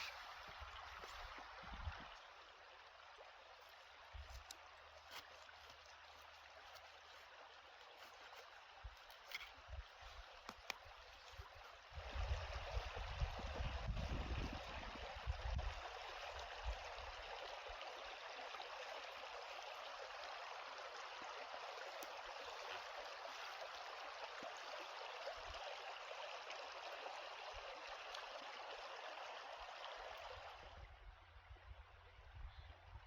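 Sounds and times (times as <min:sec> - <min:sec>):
stream flowing: 0:00.0 - 0:32.2.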